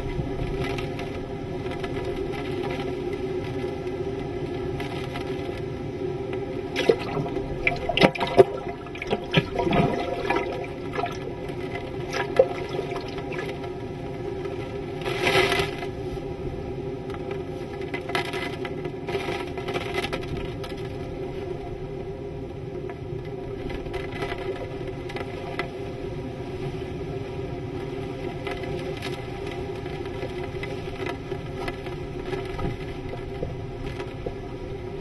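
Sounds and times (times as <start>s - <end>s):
driving rain: 0.0s - 16.3s, 17.0s - 35.0s
strong wind: 0.0s - 35.0s.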